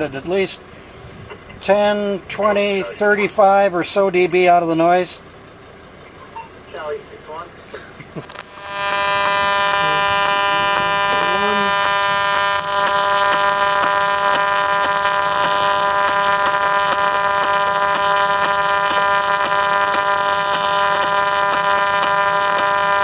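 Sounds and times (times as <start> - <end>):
harsh radio interference buzz: 1.6 - 5.1, 8.1 - 23.0.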